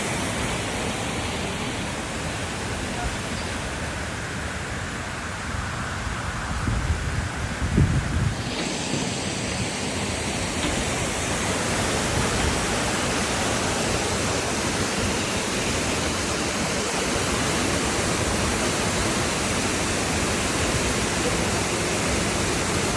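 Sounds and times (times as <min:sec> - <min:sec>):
water flowing: 0:00.0 - 0:22.9.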